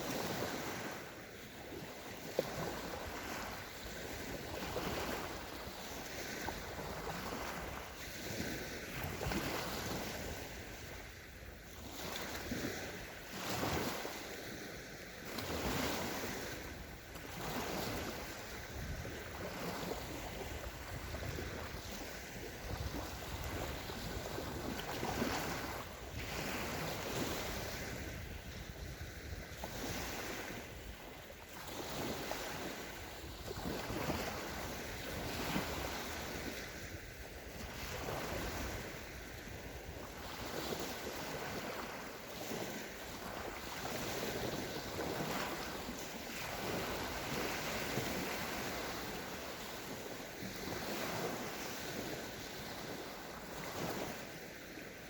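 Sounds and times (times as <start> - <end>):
small waves breaking on shore: 0.0 - 55.0.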